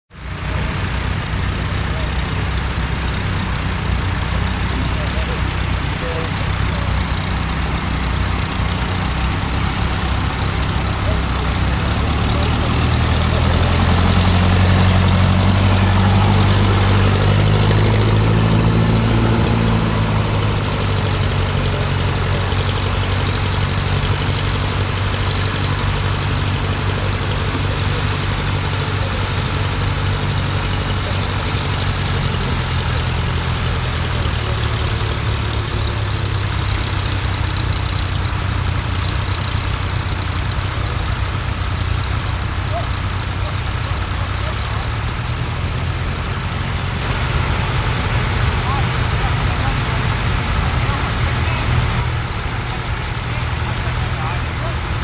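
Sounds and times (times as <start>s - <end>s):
tractor engine under load: 0.1s - 55.0s.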